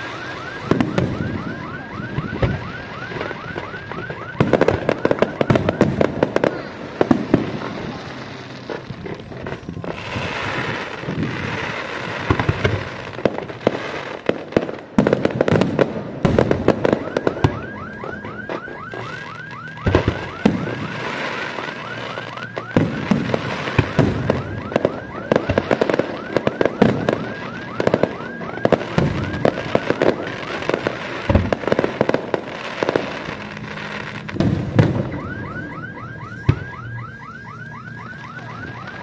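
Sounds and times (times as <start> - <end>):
fireworks bangs and crackle: 0.0 - 39.0.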